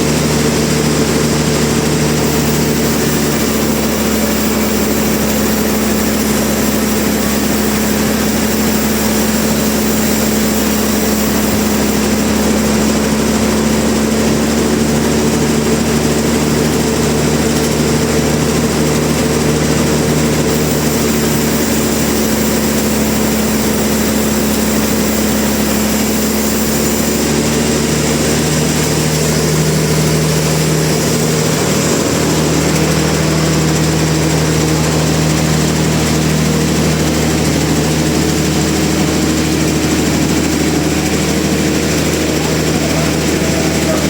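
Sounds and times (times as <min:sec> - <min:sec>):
sawmill machinery running: 0:00.0 - 0:44.0.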